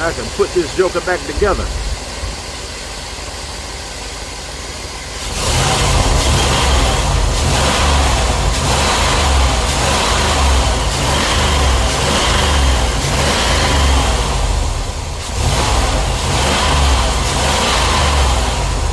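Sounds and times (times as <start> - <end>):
car engine rumbling: 0.0 - 18.9.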